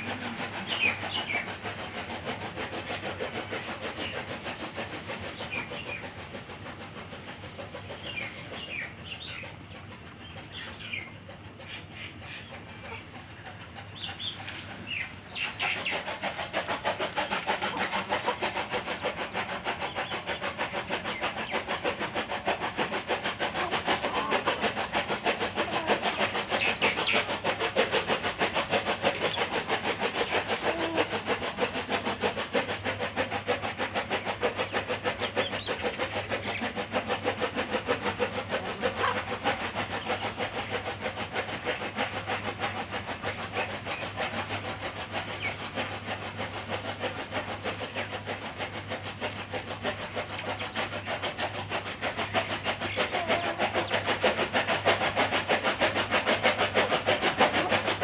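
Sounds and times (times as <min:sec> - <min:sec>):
motor running with rapid pulse: 0:00.0 - 0:58.0.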